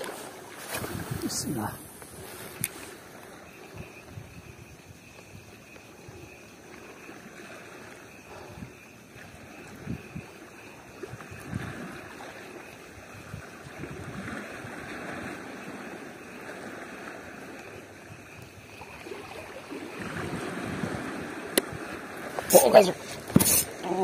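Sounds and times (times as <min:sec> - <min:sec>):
sea water lapping: 0:00.0 - 0:24.0.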